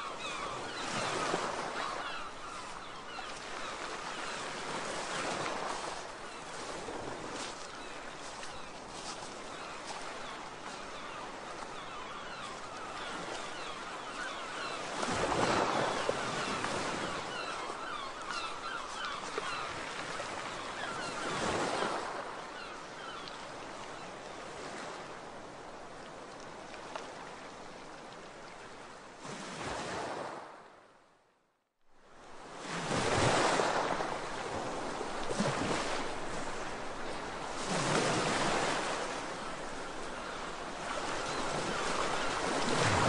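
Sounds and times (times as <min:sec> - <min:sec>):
sea waves breaking: 0:00.0 - 0:30.6, 0:32.3 - 0:43.0.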